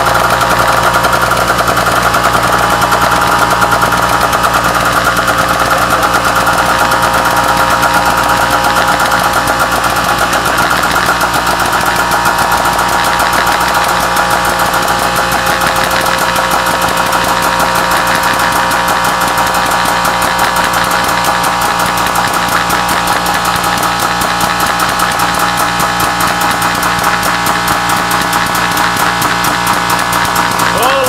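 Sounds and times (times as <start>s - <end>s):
electric motor running with rattling: 0.0s - 31.0s.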